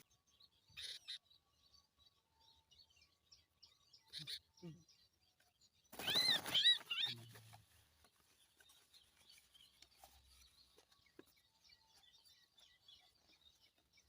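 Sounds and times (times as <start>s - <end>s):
faint small birds chirping: 0.0s - 14.0s.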